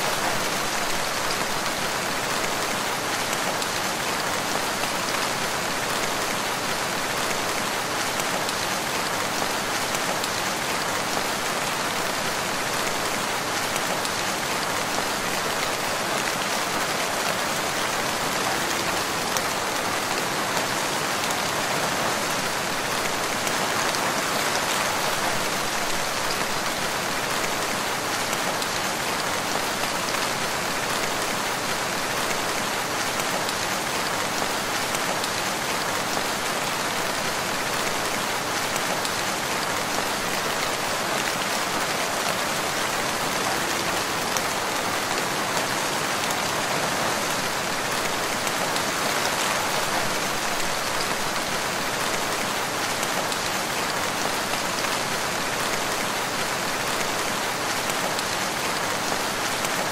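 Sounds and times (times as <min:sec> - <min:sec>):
steady rain in a forest: 0:00.0 - 0:59.9.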